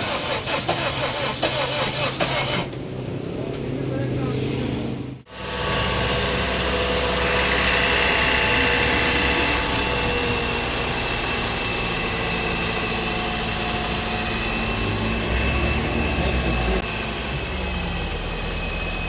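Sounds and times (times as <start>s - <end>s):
car engine running: 3.0s - 19.0s.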